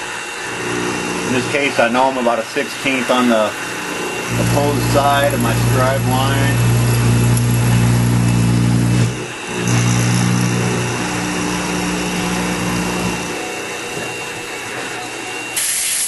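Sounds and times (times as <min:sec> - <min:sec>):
milling machine motor hum: 0:00.0 - 0:15.6.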